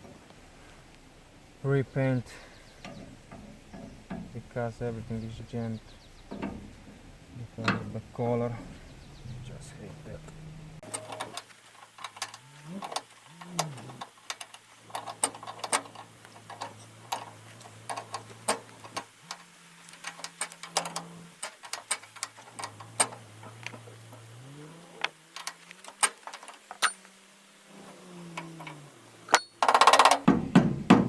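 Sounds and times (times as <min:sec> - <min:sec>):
low steady hum: 0:00.0 - 0:25.8
hand tools clicking and knocking on metal: 0:02.2 - 0:09.2, 0:10.2 - 0:24.4, 0:25.0 - 0:27.2, 0:28.3 - 0:31.0.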